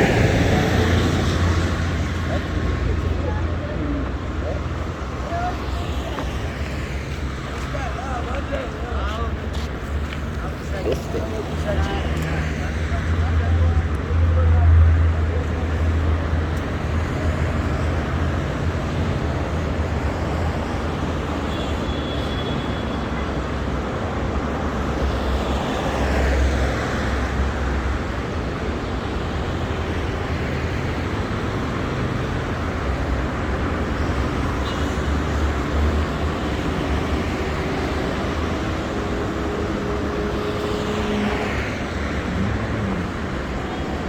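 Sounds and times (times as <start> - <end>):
traffic engines rumbling: 0.0 - 44.0
vehicles passing close by: 0.0 - 44.0.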